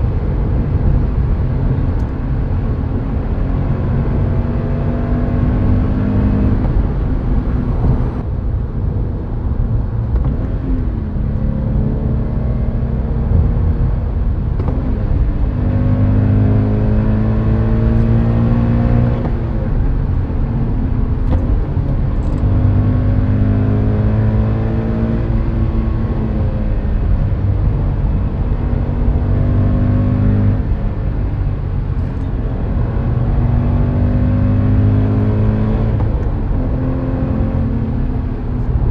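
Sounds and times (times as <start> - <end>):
car engine accelerating with upshifts: 0.0 - 38.9.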